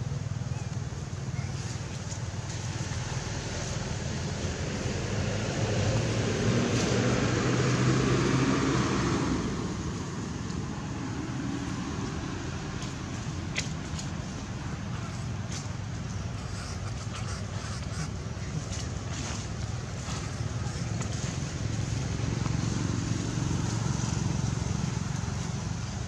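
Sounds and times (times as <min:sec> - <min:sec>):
traffic rumble: 0:00.0 - 0:26.0
vehicle engine passing by: 0:01.4 - 0:26.0.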